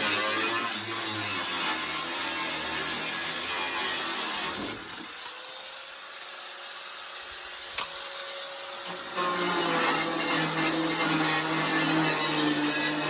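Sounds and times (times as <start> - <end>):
power tool cutting sheet metal: 0.0 - 13.0.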